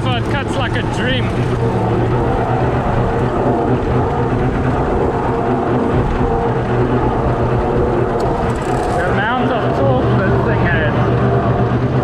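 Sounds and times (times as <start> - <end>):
slasher cutting grass: 0.0 - 10.8
tractor diesel engine under load: 0.0 - 12.0.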